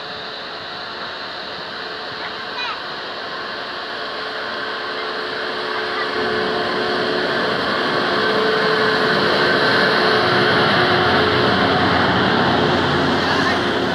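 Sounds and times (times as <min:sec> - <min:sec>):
train running on track: 0:00.0 - 0:13.9.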